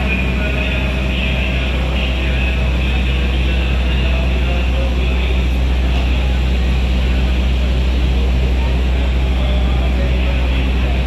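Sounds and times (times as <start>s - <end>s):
train engine drone: 0.0s - 11.0s
train rumble: 0.0s - 11.0s.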